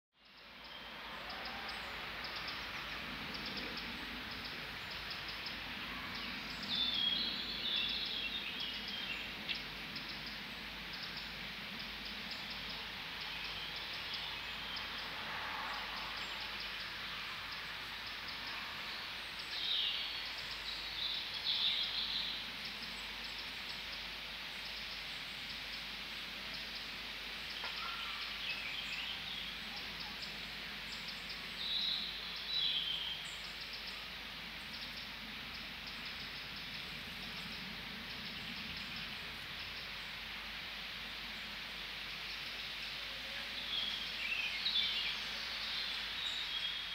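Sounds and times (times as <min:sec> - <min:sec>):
bird song: 0:00.1 - 0:40.3, 0:41.2 - 0:46.9
steady forest hiss: 0:00.2 - 0:46.9.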